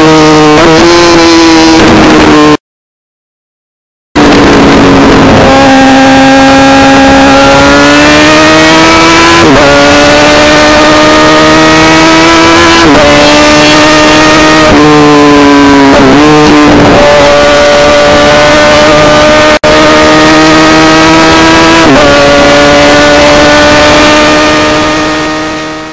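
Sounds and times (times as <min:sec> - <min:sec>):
motorcycle engine accelerating: 0:00.0 - 0:02.6, 0:04.2 - 0:25.9.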